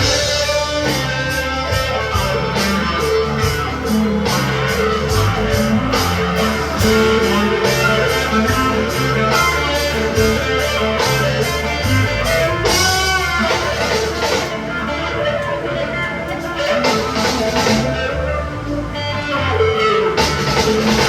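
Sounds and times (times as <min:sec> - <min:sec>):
distorted lead guitar: 0:00.0 - 0:21.0.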